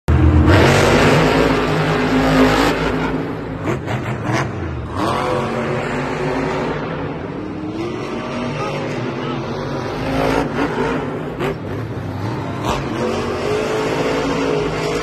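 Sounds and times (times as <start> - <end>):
truck engines revving: 0.1 - 15.0.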